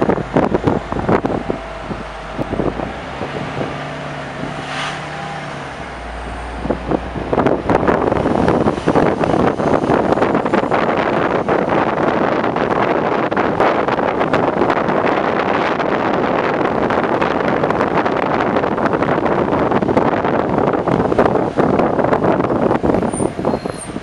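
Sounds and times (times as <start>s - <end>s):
bus hum: 0.0s - 24.0s
wind buffeting microphone: 0.0s - 24.0s.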